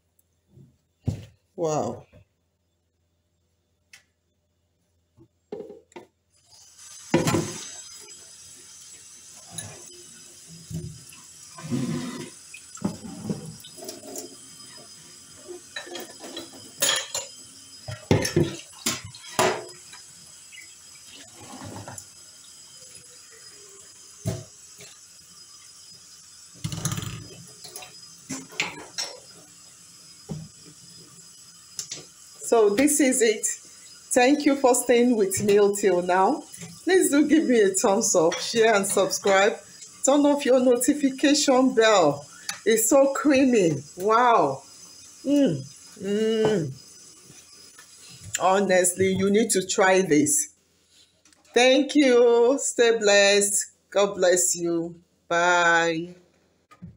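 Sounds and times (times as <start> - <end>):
faint steady hiss: 0.0 - 56.9.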